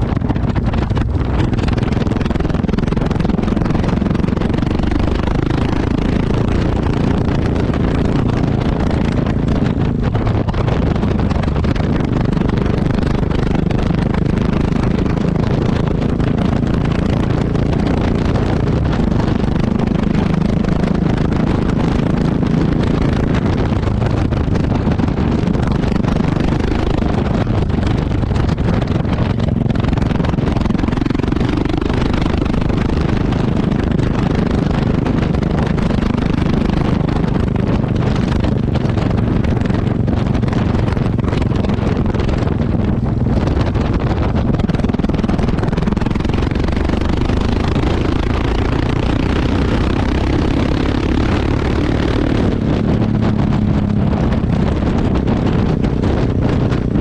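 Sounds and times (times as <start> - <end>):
motorcycle exhaust running: 0.0 - 57.0.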